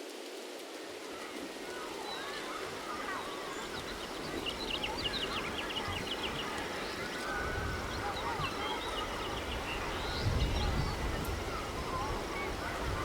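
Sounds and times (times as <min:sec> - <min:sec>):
outdoor background hiss: 0:00.0 - 0:13.0
small birds chirping: 0:01.1 - 0:13.0.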